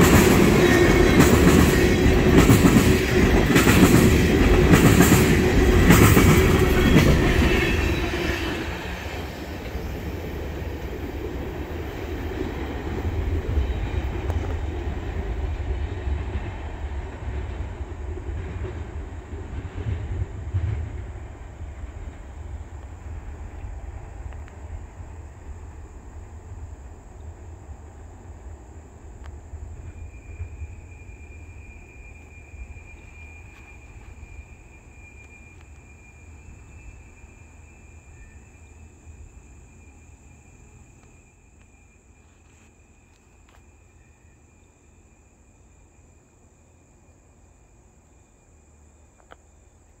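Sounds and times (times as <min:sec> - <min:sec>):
freight train rumbling on rails: 0:00.0 - 0:46.4
insects chirring: 0:00.0 - 0:50.0.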